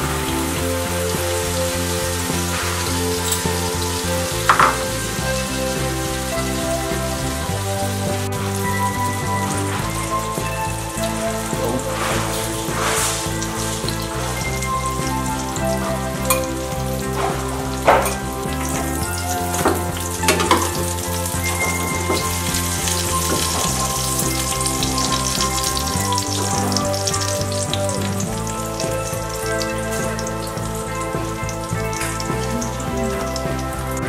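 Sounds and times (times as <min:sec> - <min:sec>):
background music: 0:00.0 - 0:34.0.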